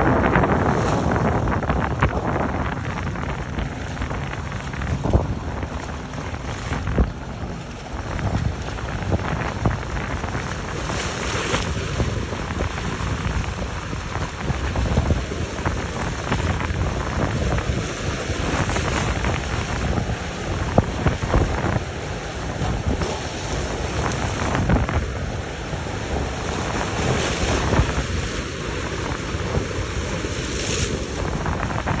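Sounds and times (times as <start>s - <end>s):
boat engines rumbling: 0.0s - 32.0s
rushing water: 0.0s - 32.0s
wind buffeting microphone: 0.0s - 32.0s.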